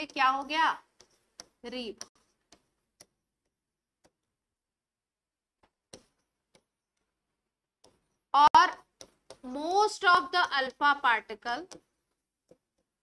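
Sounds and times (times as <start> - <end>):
marker pen on whiteboard: 0.0 - 4.6, 5.4 - 13.0.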